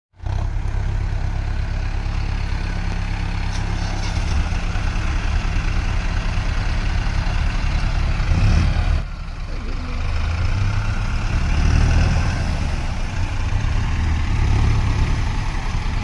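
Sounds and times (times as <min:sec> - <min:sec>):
tractor diesel engine running: 0:00.2 - 0:16.0.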